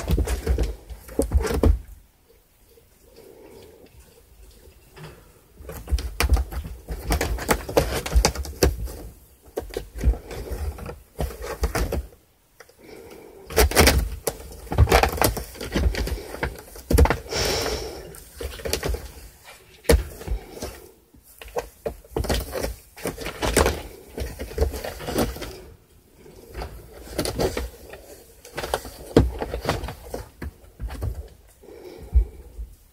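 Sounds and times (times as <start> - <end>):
cardboard crackling under cat: 0.0 - 2.0, 5.6 - 32.9.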